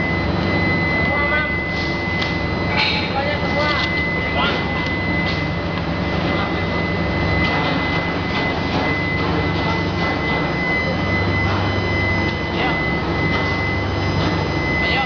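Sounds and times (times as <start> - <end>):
low hum: 0.0 - 14.9
furnace high-pitched whine: 0.0 - 15.0.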